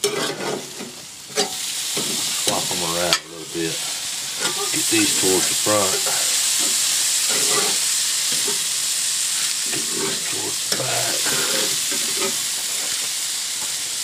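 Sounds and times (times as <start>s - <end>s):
meat sizzling on a grill: 0.0s - 14.0s.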